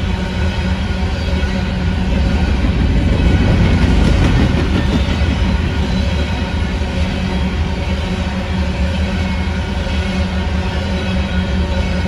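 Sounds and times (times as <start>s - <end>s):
train wheels rumbling on rails: 0.0s - 12.0s
rattling freight cars: 0.9s - 10.6s.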